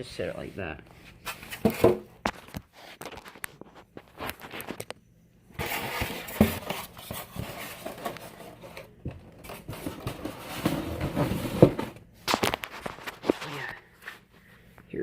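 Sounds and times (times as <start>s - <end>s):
rustling and handling noise: 0.2s - 15.0s.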